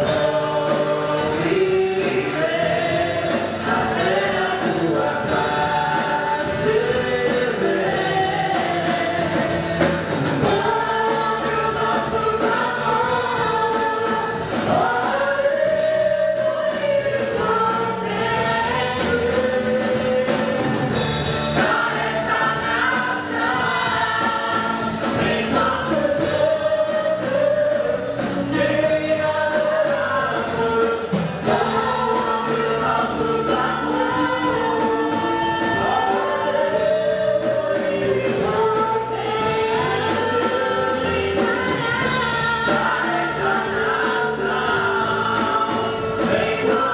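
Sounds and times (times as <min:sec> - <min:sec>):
gospel choir singing: 0:00.0 - 0:46.9
instrumental backing: 0:00.0 - 0:46.9.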